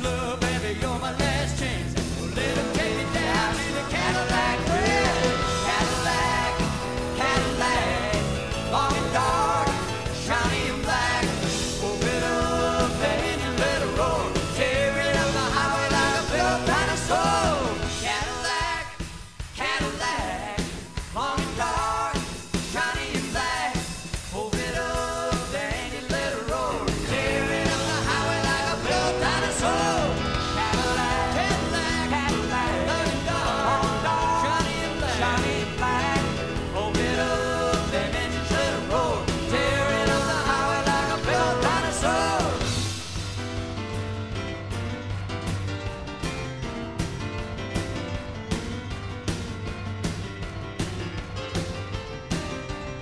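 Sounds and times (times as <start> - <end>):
rock song with singing: 0.0 - 53.0.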